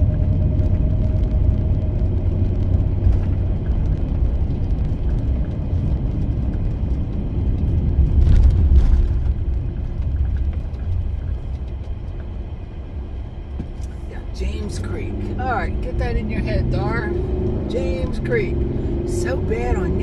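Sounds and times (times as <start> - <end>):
van engine and road noise: 0.0 - 20.0.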